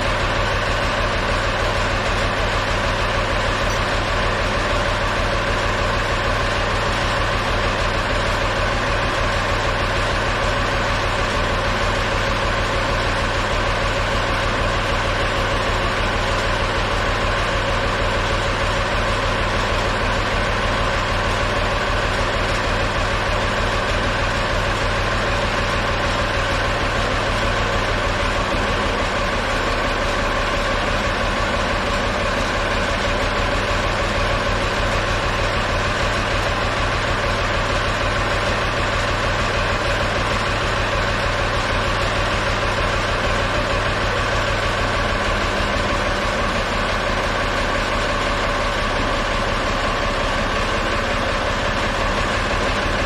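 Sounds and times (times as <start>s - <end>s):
tractor engine idling: 0.0s - 53.0s.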